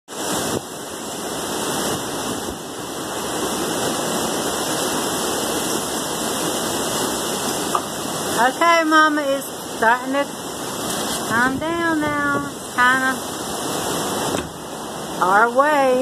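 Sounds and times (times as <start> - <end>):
heavy rain: 0.1 - 16.0
wind blowing through trees: 0.1 - 16.0.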